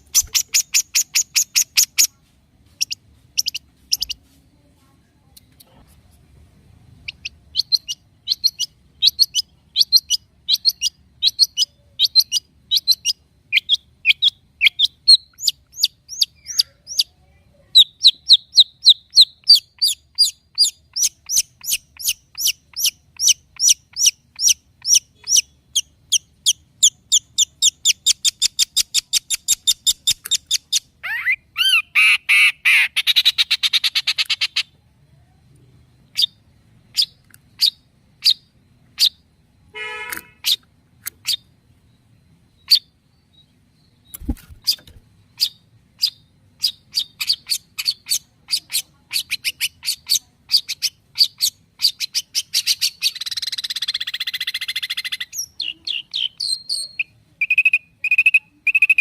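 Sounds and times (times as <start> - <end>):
bird chirping: 0.0 - 4.4, 7.0 - 59.0.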